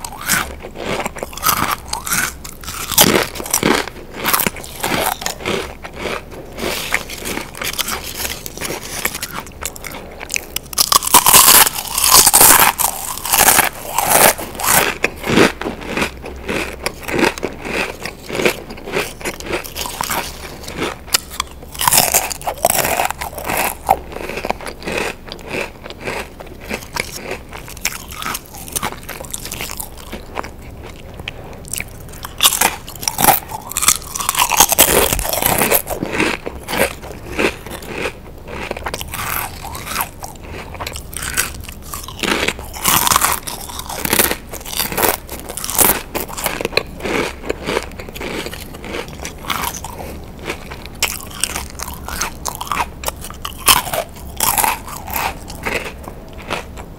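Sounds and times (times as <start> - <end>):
crisps crunching while chewed: 0.0 - 56.9.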